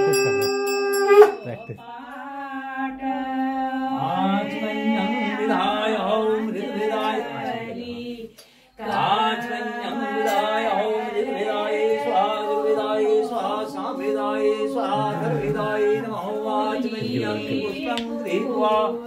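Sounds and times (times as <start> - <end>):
women singing unaccompanied: 1.8 - 19.0.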